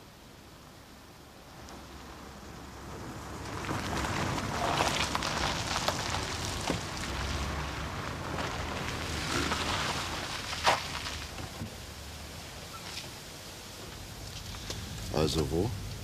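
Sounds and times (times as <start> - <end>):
rushing tyre noise: 0.0 - 16.0
car engines running: 1.5 - 16.0.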